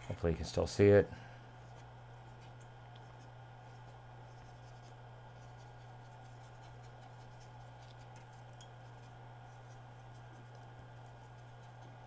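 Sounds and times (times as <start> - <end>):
steady low hum: 0.0 - 12.0
cotton swab scratching: 1.6 - 12.0.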